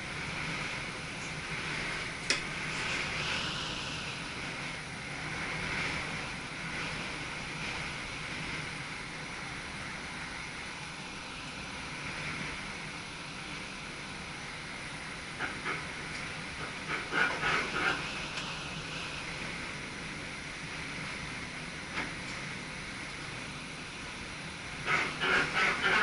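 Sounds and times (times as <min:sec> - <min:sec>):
low hum: 0:00.0 - 0:26.0
train wheels rushing on rails: 0:00.0 - 0:26.0.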